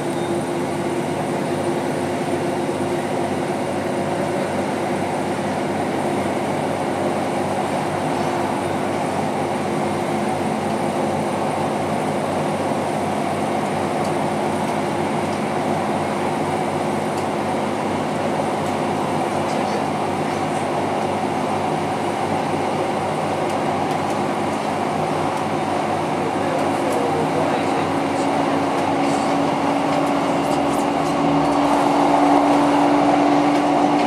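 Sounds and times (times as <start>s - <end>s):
train wheels on rails: 0.0s - 34.0s.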